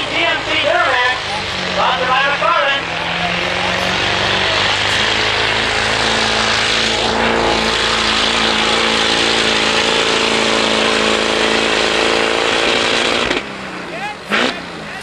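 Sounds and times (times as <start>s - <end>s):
diesel engine droning under load: 0.0s - 15.0s.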